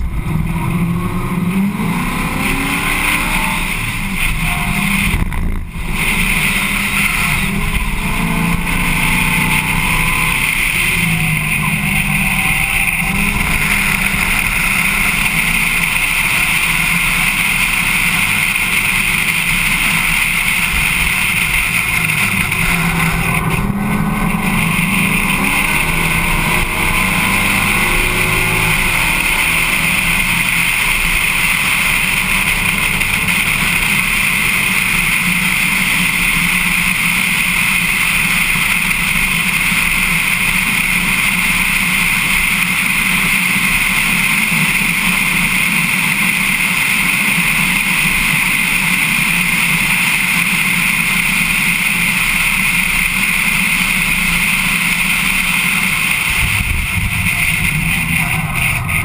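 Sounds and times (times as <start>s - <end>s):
race car engine: 0.0s - 59.0s
wind and road noise: 0.0s - 59.0s.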